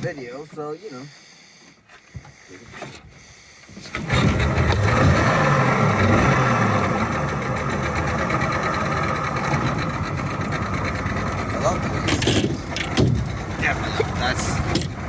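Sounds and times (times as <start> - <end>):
outboard motor running: 2.2 - 15.0.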